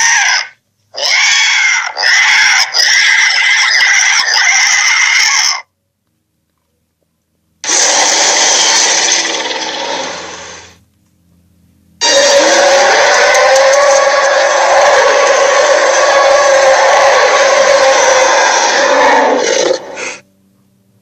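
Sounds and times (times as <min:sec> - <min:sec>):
giant creature rasping calls: 0:00.0 - 0:05.6, 0:07.6 - 0:10.7, 0:12.0 - 0:20.2.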